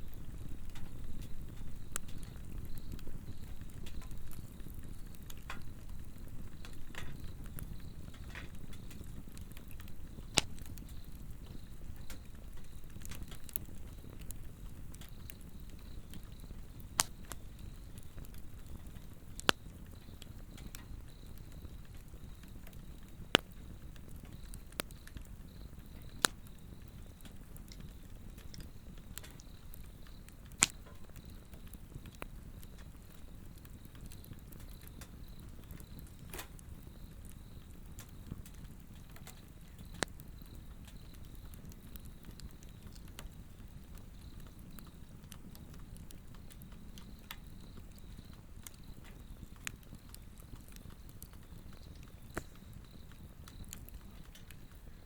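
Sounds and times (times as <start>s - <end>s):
fire flames rushing: 0.0s - 55.0s
insects trilling: 0.0s - 55.0s
wood popping: 0.0s - 55.0s.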